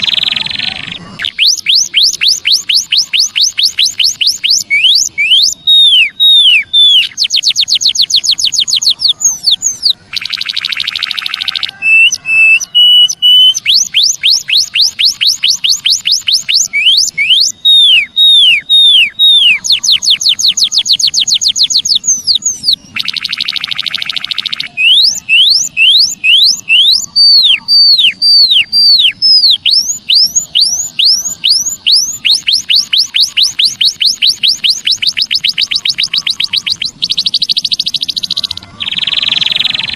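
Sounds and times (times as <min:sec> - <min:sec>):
bird whistling: 0:00.0 - 0:39.9.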